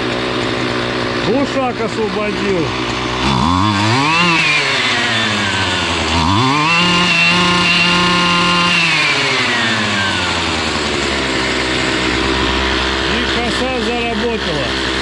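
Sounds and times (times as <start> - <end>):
string trimmer engine revving: 0.0 - 15.0.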